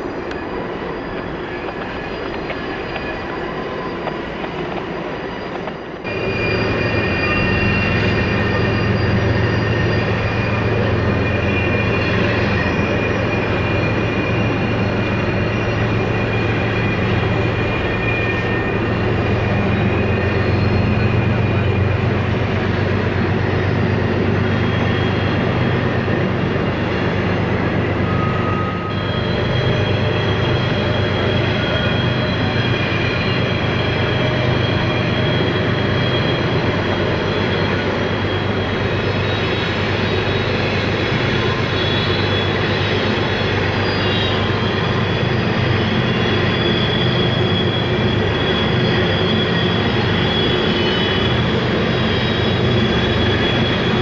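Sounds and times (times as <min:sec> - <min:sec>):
diesel locomotives droning: 0:00.0 - 0:54.0
high wheel squealing: 0:00.0 - 0:54.0
steel wheels running on rail: 0:00.0 - 0:54.0.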